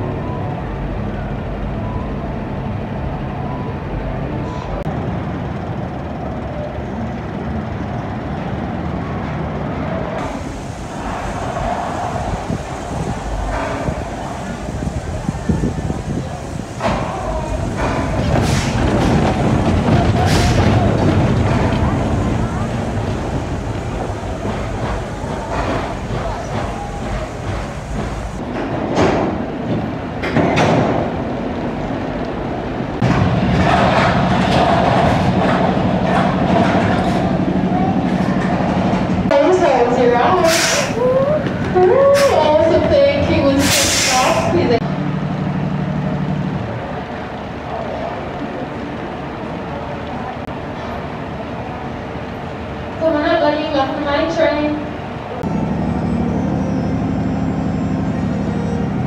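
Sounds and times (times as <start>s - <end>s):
roller coaster rolling on steel track: 0.0s - 59.0s.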